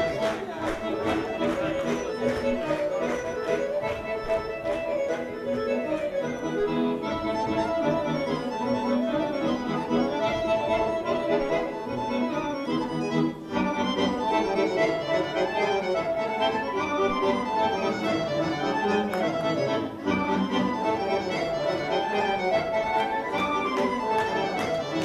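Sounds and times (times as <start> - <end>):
accordion folk dance music: 0.0 - 25.0.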